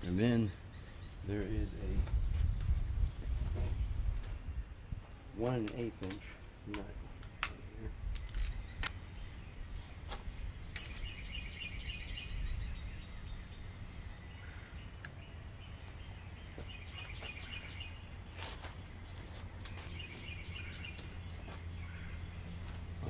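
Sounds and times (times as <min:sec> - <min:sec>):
bird chirping: 0:00.0 - 0:04.8, 0:05.4 - 0:23.0
low outdoor rumble: 0:00.0 - 0:23.0.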